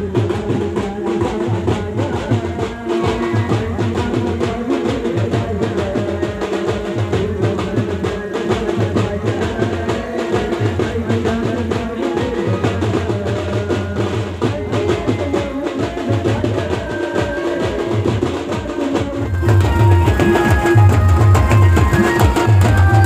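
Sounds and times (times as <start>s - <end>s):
drums on electronic pad: 0.0s - 23.0s.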